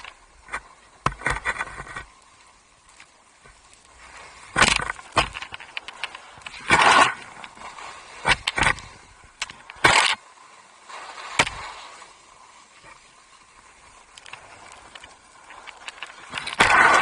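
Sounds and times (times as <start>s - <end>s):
skis scraping over snow: 0.0s - 17.0s
soft steady hiss: 0.0s - 17.0s.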